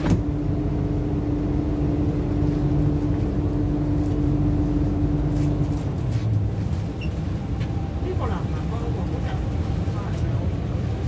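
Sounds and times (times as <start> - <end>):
train motor hum: 0.0 - 11.0
train rumble: 0.0 - 11.0.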